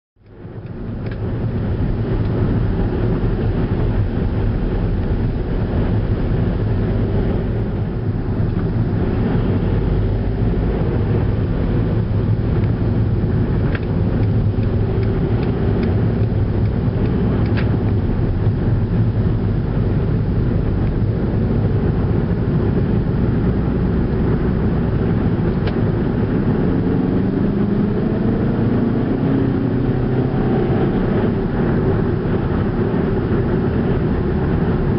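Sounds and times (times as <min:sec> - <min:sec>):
car engine and road noise: 0:00.2 - 0:34.9.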